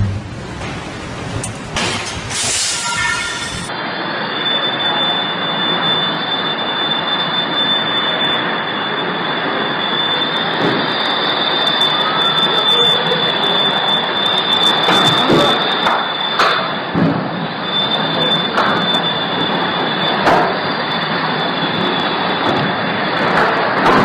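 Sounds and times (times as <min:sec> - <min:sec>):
storm wind roaring: 0:00.0 - 0:04.5, 0:08.3 - 0:24.0
high whine: 0:00.0 - 0:24.0.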